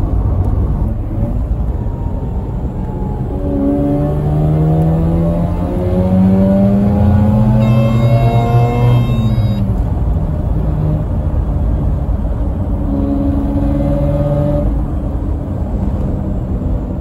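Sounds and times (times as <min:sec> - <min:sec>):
rotary car engine from inside cabin: 0:00.0 - 0:17.0.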